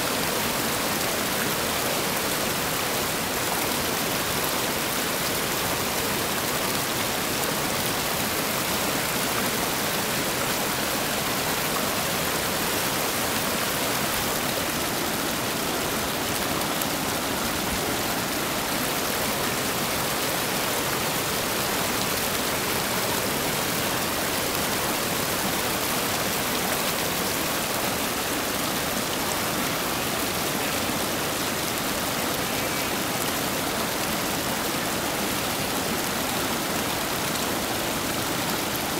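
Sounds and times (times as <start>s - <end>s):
rapids rushing over rocks: 0.0s - 38.9s.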